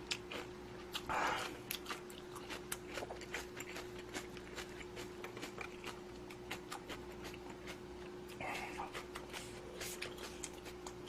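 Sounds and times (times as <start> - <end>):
wet chewing clicks and smacks: 0.0 - 11.0.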